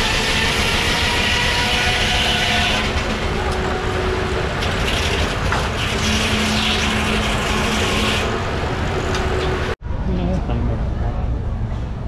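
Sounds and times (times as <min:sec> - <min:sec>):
engine machinery running: 0:00.0 - 0:09.8.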